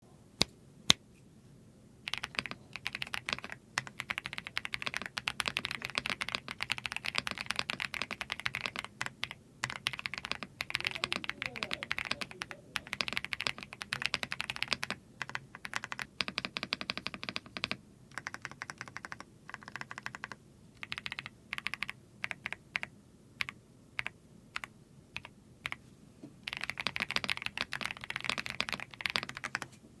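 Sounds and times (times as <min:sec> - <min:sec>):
mechanical keyboard typing: 0:02.1 - 0:25.8, 0:26.4 - 0:29.7.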